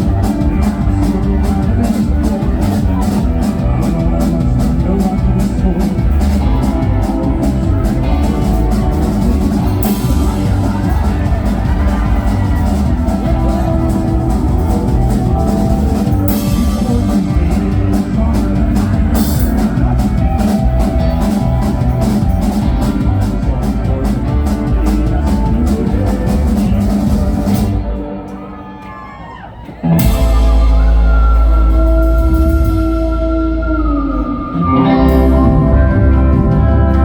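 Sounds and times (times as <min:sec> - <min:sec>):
live country rock band: 0:00.0 - 0:37.0.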